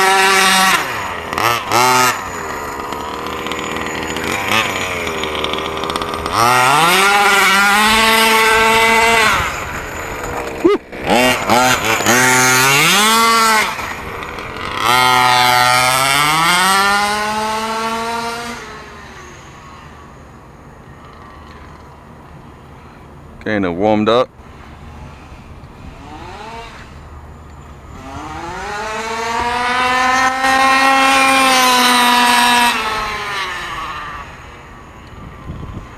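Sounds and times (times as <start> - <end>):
two-stroke engine revving: 0.0 - 22.1, 24.4 - 35.9.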